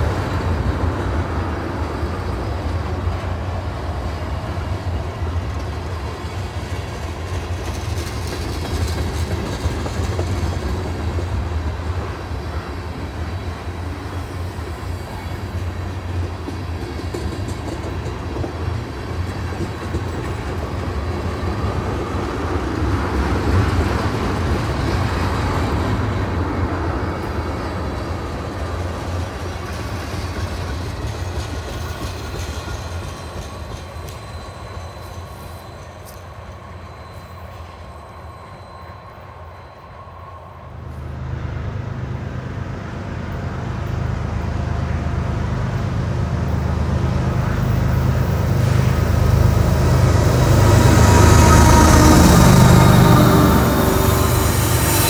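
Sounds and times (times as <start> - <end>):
freight train clickety-clack: 0.0 - 38.8, 41.1 - 55.0.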